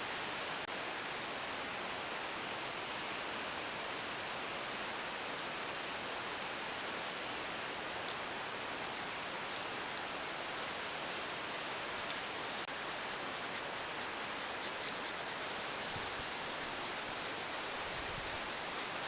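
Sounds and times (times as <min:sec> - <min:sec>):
microphone hiss: 0:00.0 - 0:19.0.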